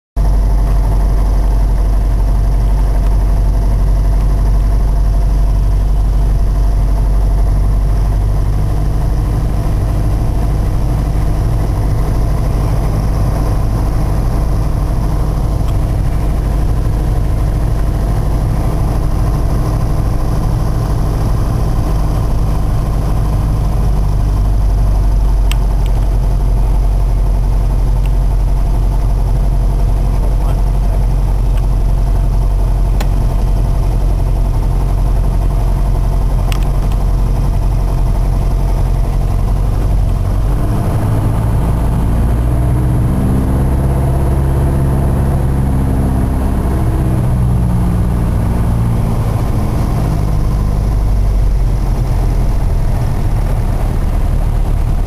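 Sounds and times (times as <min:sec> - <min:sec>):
light aircraft engine drone: 0:00.2 - 0:55.0.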